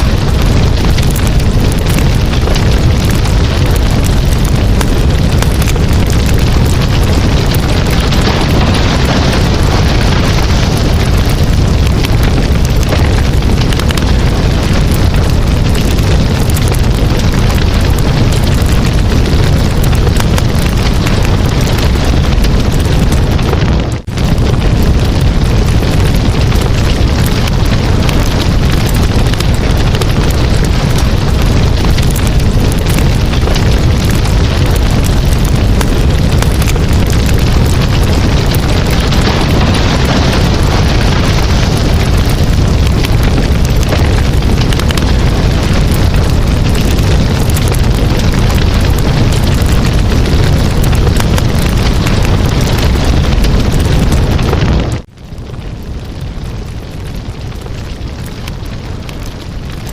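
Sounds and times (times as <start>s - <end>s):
burning wood crackling and popping: 0.0s - 59.9s
campfire flame rushing: 0.0s - 59.9s.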